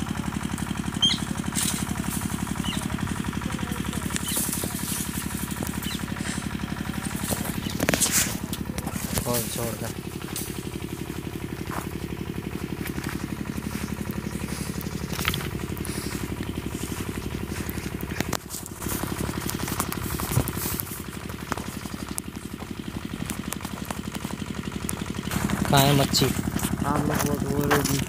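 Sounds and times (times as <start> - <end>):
pump engine knocking: 0.0 - 28.0.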